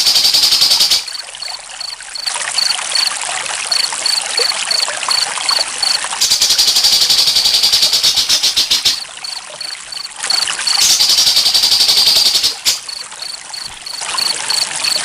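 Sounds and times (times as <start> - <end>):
crickets chirping: 0.0 - 15.0
trickling water: 0.0 - 15.0
fast-pulsed cricket trill: 0.1 - 15.0.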